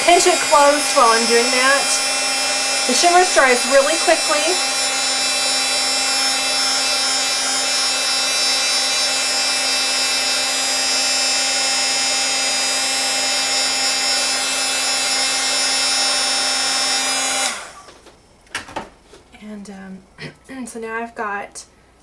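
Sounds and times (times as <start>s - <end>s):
heat gun fan whirring: 0.0s - 19.0s.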